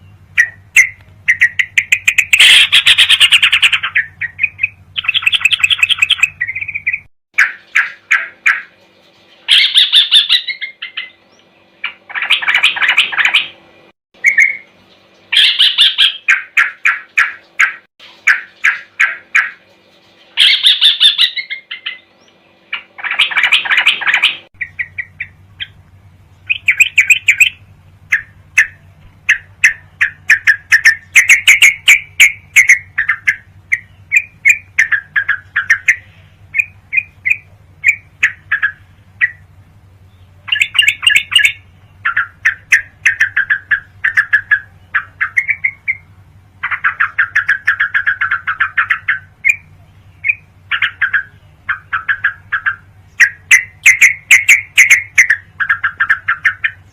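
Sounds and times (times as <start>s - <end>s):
low hum: 0.0s - 16.0s, 21.1s - 56.9s
bird chattering song: 0.0s - 56.9s.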